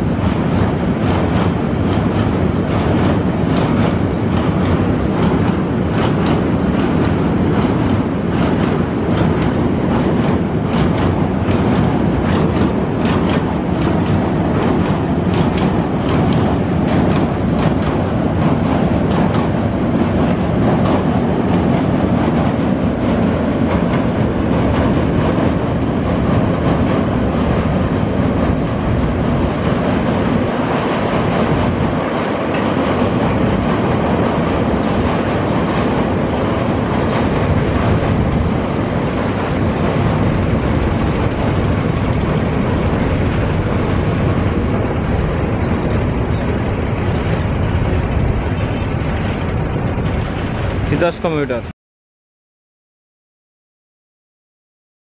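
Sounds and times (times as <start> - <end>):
wheels clacking on rail joints: 0.0 - 48.7
train rumbling over bridge: 0.0 - 51.7.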